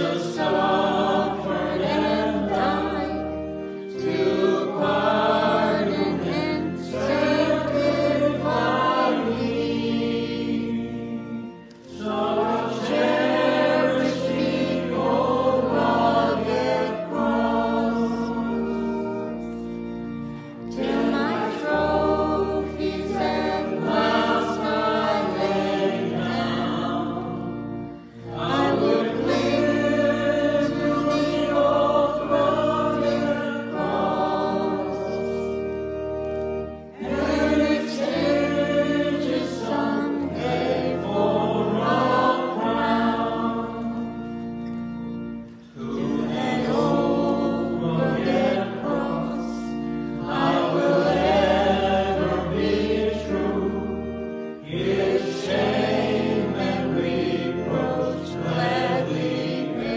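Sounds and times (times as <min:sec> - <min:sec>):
choir singing a hymn: 0:00.0 - 0:59.9
held accompanying chords: 0:00.0 - 0:59.9.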